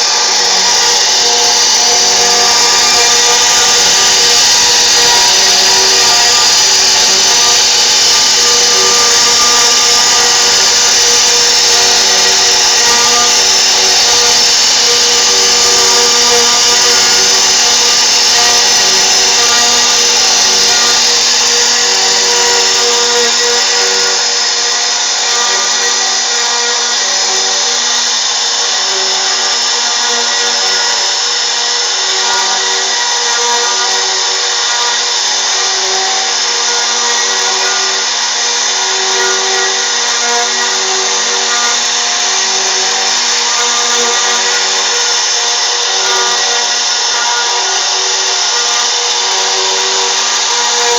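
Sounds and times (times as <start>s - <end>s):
cnc router spindle whine: 0.0s - 50.9s.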